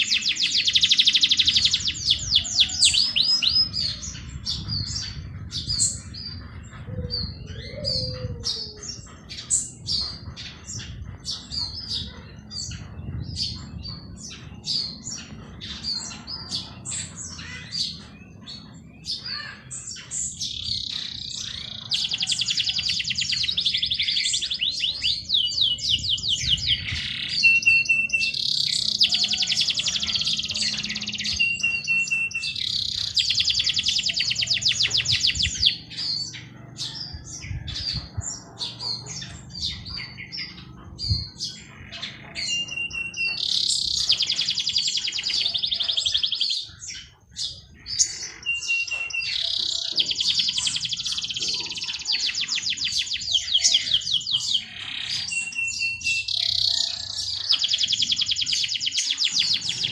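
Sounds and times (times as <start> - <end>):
rapid trilled birdsong: 0.0 - 59.9
songbirds chirping: 0.0 - 59.9.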